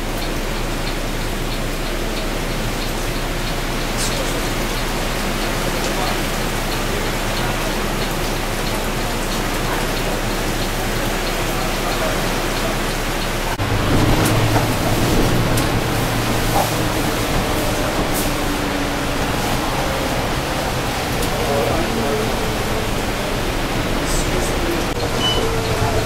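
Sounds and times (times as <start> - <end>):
heavy rain on vehicle roof: 0.0 - 26.0.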